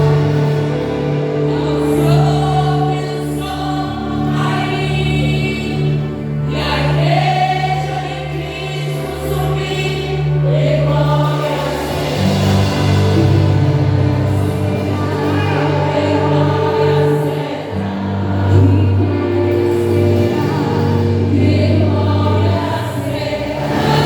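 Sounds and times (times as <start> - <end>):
women's choir singing a hymn: 0.0 - 24.0.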